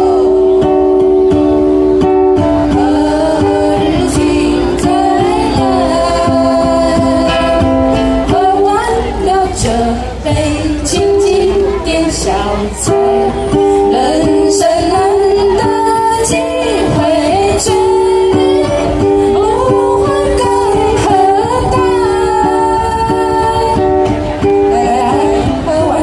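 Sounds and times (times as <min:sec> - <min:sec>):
women singing: 0:00.0 - 0:01.4, 0:02.4 - 0:26.0.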